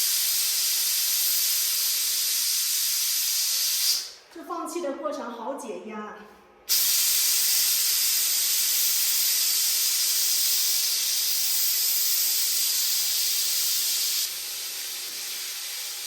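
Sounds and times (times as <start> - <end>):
pressure cooker steam hiss: 0.0 - 4.2, 6.7 - 16.0.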